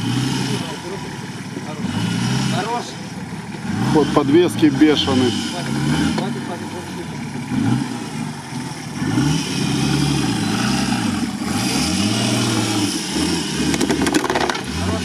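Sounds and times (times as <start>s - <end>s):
suv engine revving: 0.0s - 15.0s.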